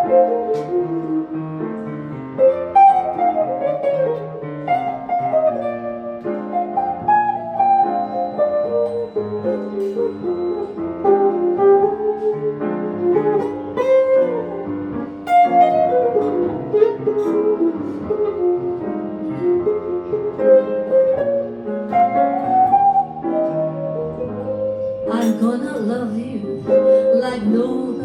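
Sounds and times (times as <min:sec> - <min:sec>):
acoustic guitar: 0:00.0 - 0:28.0
jazz piano: 0:00.0 - 0:28.0.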